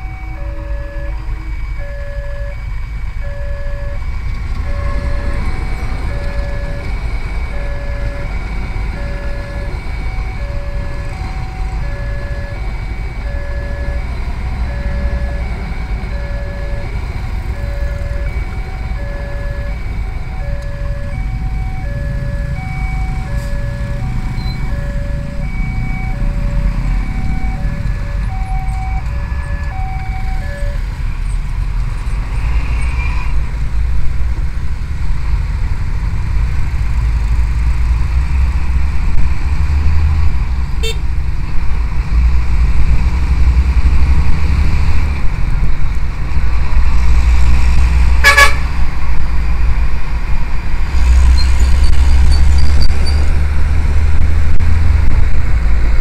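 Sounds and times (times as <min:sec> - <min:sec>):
passing train rumble: 0:00.0 - 0:56.0.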